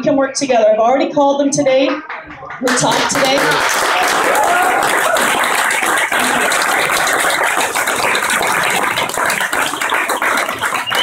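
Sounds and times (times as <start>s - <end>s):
crowd applauding: 2.1s - 11.0s.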